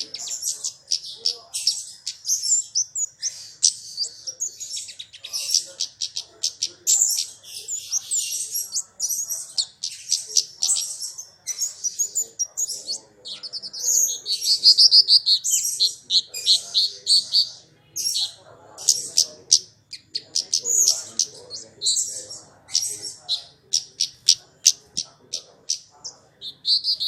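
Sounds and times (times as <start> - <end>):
bird song lure call: 0.0 - 27.0.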